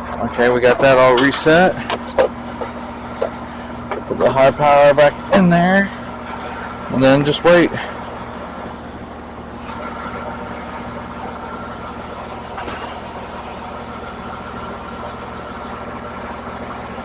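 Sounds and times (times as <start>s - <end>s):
machinery hum: 0.0s - 17.0s.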